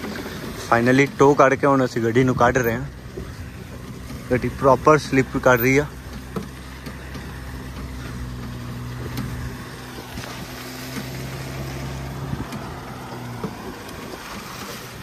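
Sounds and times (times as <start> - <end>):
vehicle engine running under load: 0.0 - 15.0
wheels slipping: 0.0 - 15.0.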